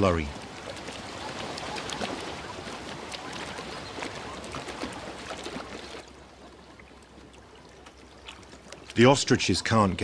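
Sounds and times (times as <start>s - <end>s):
hooves splashing through muddy water: 0.0s - 10.0s.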